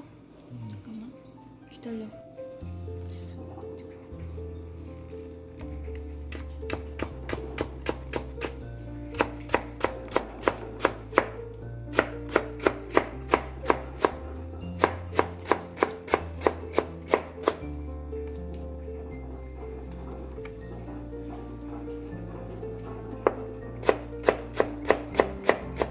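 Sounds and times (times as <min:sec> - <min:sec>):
background music: 0:00.0 - 0:25.9.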